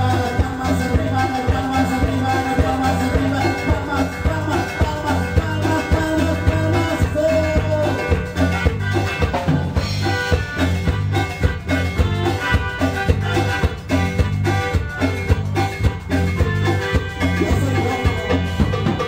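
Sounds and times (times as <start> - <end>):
dance band playing: 0.0 - 19.0.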